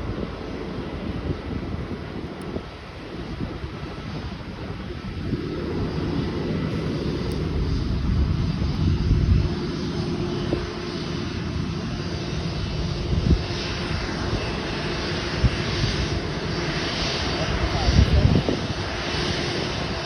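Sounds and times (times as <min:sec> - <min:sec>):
jet engines rumbling at low power: 0:00.0 - 0:20.0.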